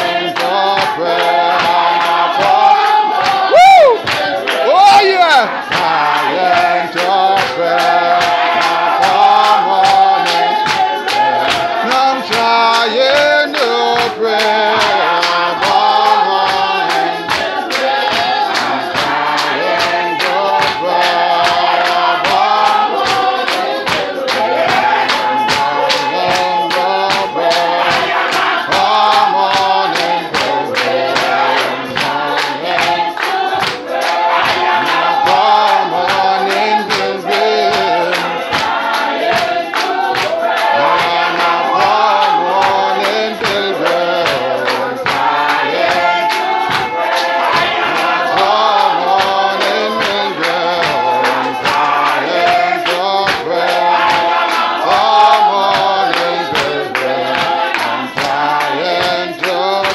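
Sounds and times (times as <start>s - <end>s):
congregation singing in chorus: 0.0s - 59.9s
steady percussive beat: 0.0s - 59.9s.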